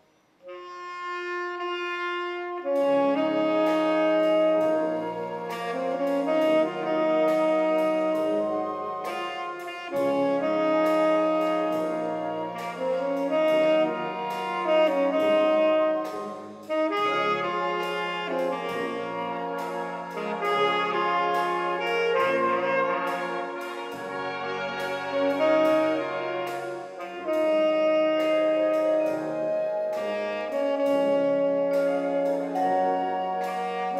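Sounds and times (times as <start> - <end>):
tenor saxophone solo: 0.4 - 33.9
wind band brass chords: 0.4 - 33.9.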